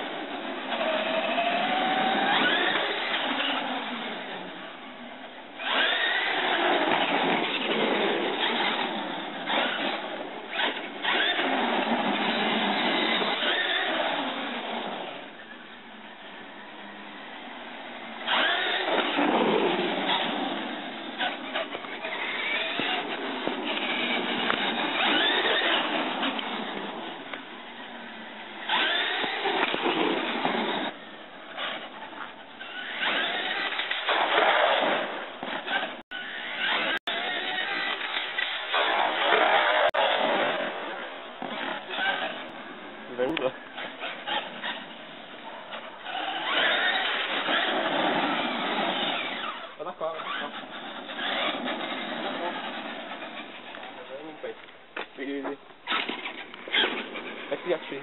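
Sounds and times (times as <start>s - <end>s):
toy truck electric motor whining: 0.0s - 4.5s, 5.6s - 15.2s, 18.1s - 54.4s.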